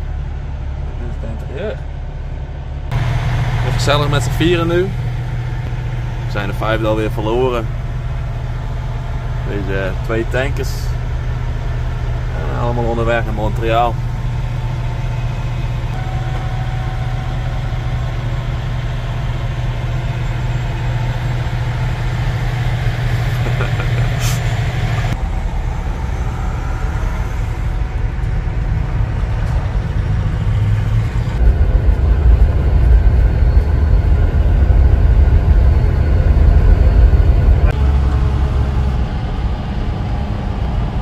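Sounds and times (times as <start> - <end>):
diesel truck engine rumble: 0.0 - 41.0.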